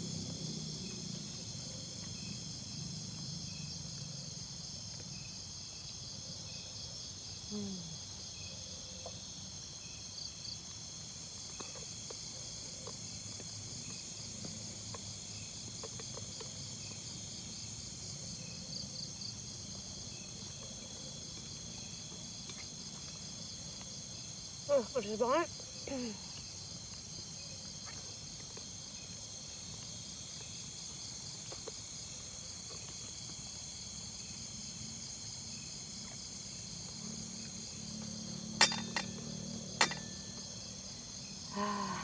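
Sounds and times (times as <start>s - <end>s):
repeating insect chirp: 0.0s - 42.0s.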